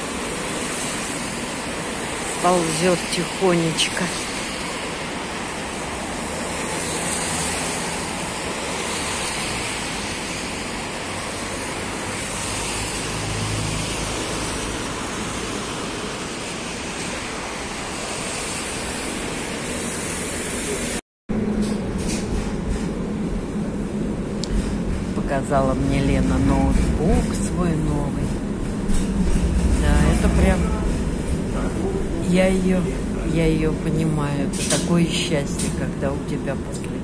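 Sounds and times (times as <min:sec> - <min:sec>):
traffic on a wet road: 0:00.0 - 0:37.0
tram interior hum: 0:00.0 - 0:37.0.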